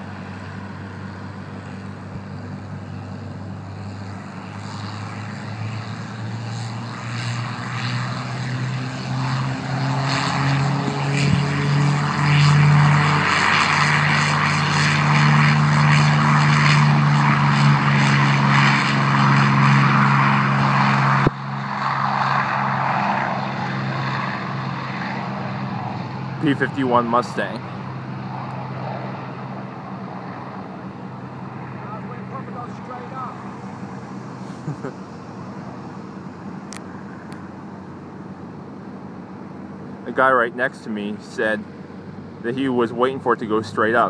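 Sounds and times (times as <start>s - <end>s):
propeller plane engine drone: 0.0s - 44.0s.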